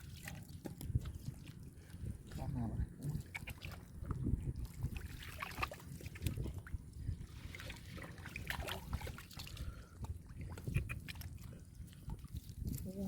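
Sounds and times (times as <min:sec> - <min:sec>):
muddy water sloshing and splashing: 0:00.0 - 0:13.0.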